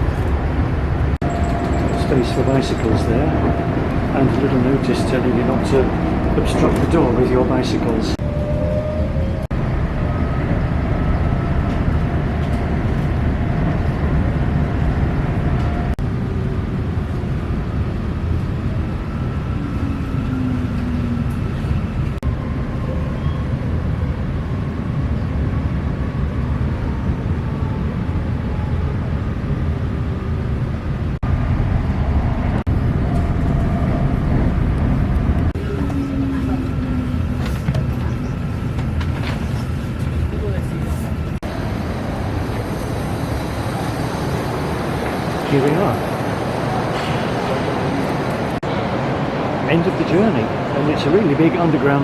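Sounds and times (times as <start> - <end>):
train rumbling inside carriage: 0.0 - 52.0.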